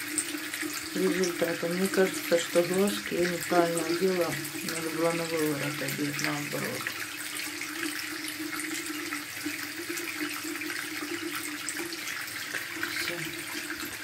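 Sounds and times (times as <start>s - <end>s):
water running: 0.0s - 14.0s.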